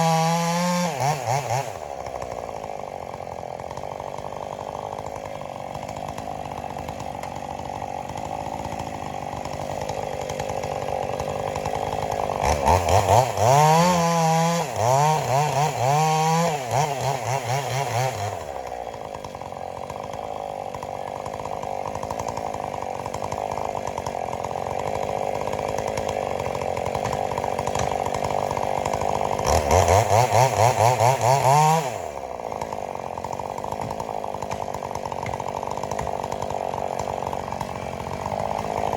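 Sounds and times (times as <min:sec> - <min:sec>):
chainsaw running and revving: 0:00.0 - 0:38.9.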